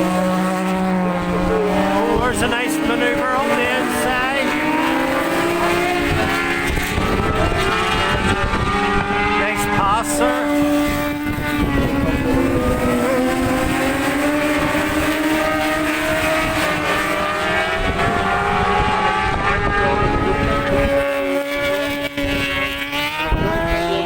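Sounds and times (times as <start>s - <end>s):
racing motorcycles at full throttle: 0.0s - 24.0s
wind rumbling on microphone: 0.0s - 24.0s.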